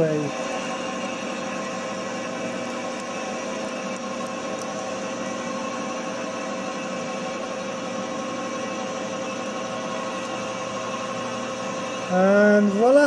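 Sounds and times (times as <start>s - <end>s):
milling machine motor hum: 0.0s - 13.0s.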